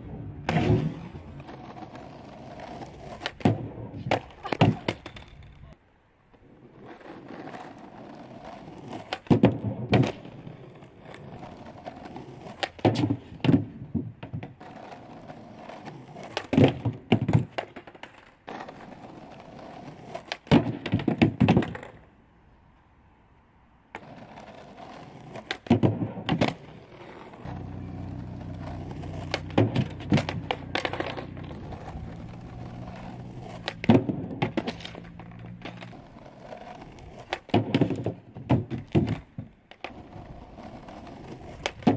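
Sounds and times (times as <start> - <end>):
skateboard clacks and thuds: 0.0 - 22.2, 23.9 - 41.9
skateboard rolling: 0.0 - 41.9.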